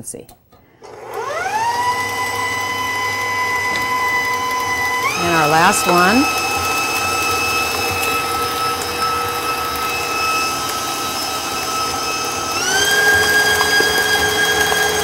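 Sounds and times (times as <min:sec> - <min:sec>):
stand mixer motor whine: 0:00.8 - 0:15.0.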